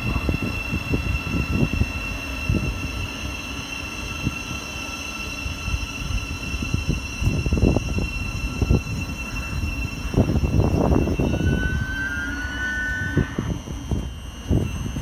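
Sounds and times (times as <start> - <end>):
high brake squeal: 0.0 - 15.0
thin steady whine: 0.0 - 15.0
train rumbling past: 0.0 - 15.0.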